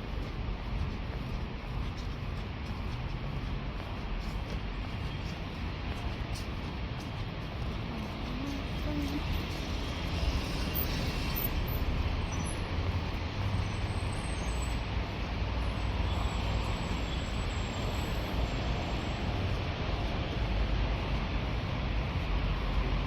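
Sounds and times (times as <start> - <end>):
moving vehicle rumble and hiss: 0.0 - 23.0.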